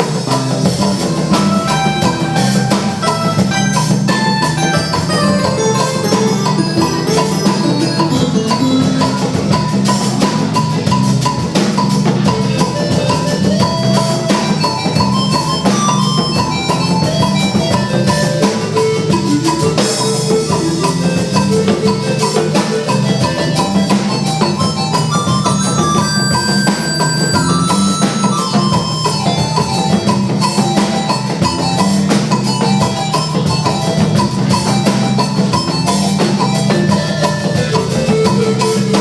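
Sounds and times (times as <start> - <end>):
bright melodic percussion notes: 0.0 - 39.0
steady drum beat: 0.0 - 39.0.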